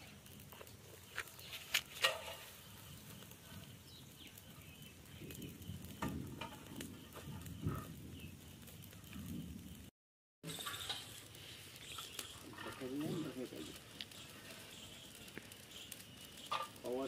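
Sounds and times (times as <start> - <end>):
dry stalks burning: 0.0 - 17.0
fire cracks and pops: 0.0 - 17.0
stick poking burning pile: 0.0 - 17.0.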